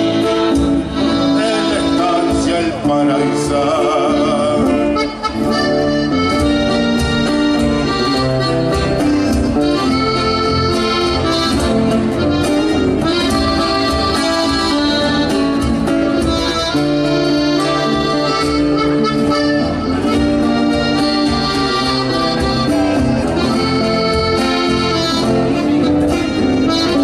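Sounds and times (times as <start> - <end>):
accordion melody: 0.0 - 27.0
guitar accompaniment: 0.0 - 27.0.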